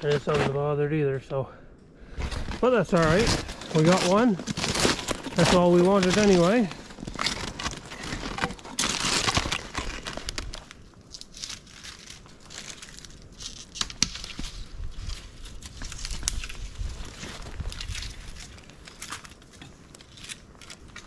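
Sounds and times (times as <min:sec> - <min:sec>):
footsteps crunching through snow: 0:02.0 - 0:21.0
brushing past branches: 0:02.1 - 0:21.0.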